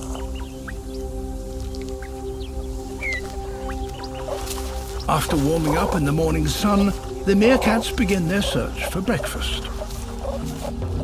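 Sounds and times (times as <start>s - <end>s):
soft music with sustained chords: 0.0s - 11.0s.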